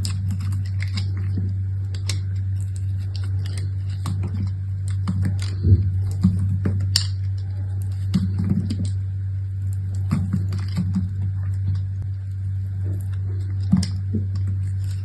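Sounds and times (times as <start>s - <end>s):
wrapping crinkling and clicking: 0.0s - 9.0s, 9.6s - 15.0s
low hum: 0.0s - 15.0s.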